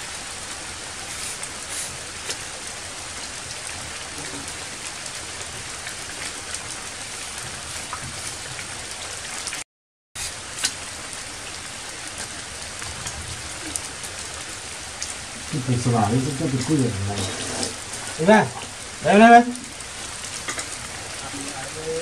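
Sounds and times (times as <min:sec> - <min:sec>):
louder raindrops: 0:00.0 - 0:09.6, 0:10.2 - 0:22.0
rain on leaves and rocks: 0:00.0 - 0:09.6, 0:10.2 - 0:22.0.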